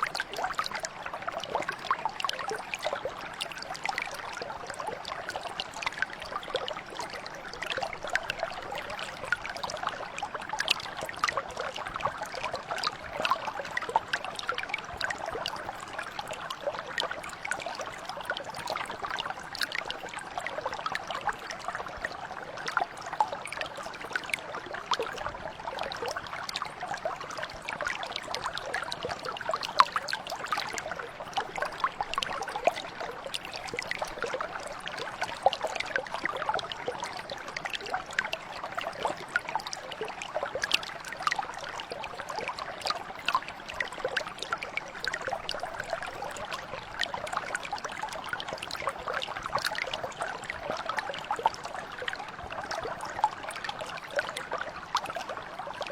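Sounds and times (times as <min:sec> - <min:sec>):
stream flowing over stones: 0:00.0 - 0:55.9.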